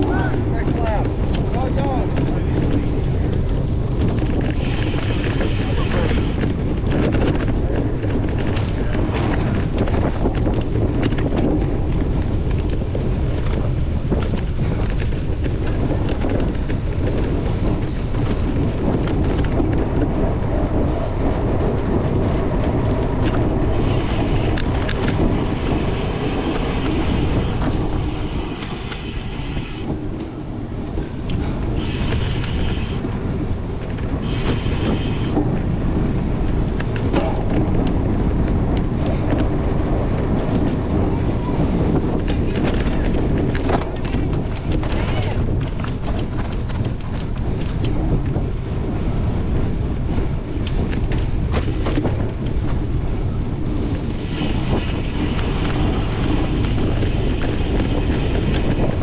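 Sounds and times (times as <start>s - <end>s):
bike knocking and rattling: 0.0s - 59.0s
tyres rumbling on rough ground: 0.0s - 59.0s
wind buffeting microphone: 0.0s - 59.0s.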